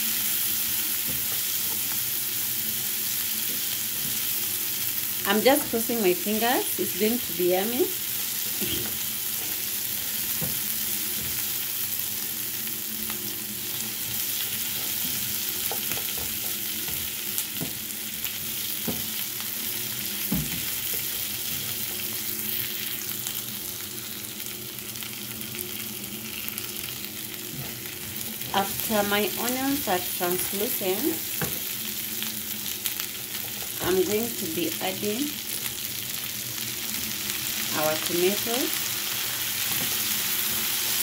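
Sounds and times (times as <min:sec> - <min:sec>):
meat and onions sizzling in oil: 0:00.0 - 0:41.0.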